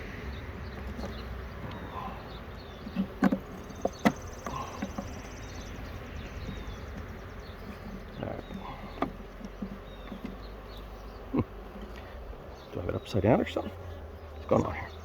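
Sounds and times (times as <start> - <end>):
honeybees buzzing: 0.0 - 15.0
wooden hive frames knocking: 0.6 - 15.0.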